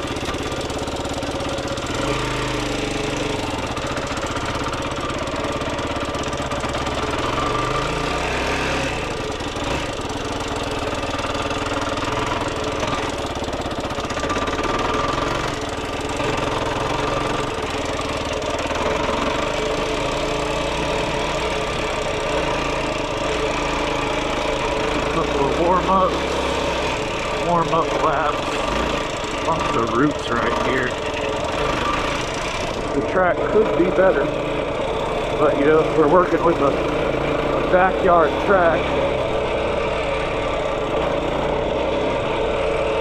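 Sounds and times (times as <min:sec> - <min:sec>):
quad engine running: 0:00.0 - 0:43.0.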